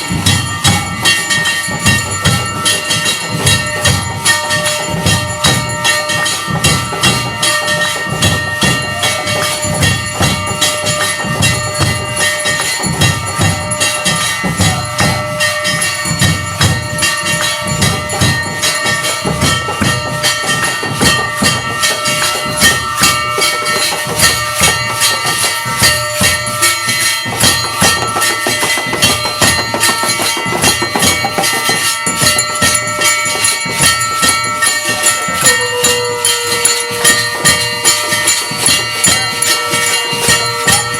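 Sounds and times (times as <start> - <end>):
jingling percussion: 0.0 - 40.9
metal bells ringing: 0.0 - 40.9
rhythmic drumming: 0.0 - 40.9.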